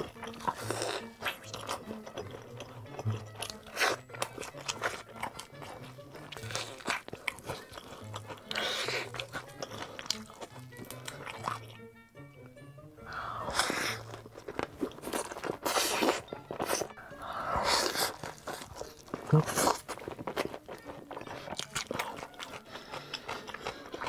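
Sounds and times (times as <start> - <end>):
noodles slurped: 0.0 - 11.7, 13.1 - 24.0
crunchy bites: 0.0 - 11.8, 13.3 - 24.0
wet chewing: 0.0 - 11.9, 12.5 - 24.0
low music bed: 0.0 - 24.0.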